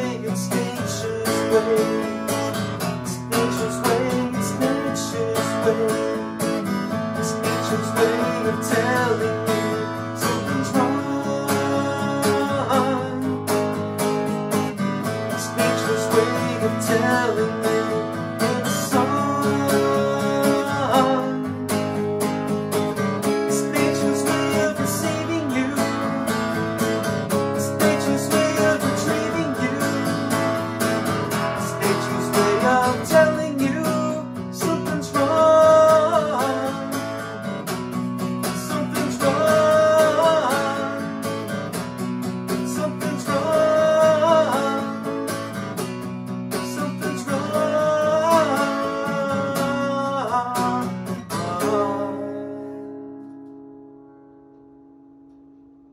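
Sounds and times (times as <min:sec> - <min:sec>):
wordless vocal line: 0:00.0 - 0:13.6, 0:14.6 - 0:21.8, 0:23.3 - 0:37.4, 0:38.4 - 0:41.7, 0:42.6 - 0:45.3, 0:46.6 - 0:52.9
acoustic guitar strumming chords: 0:00.0 - 0:55.9.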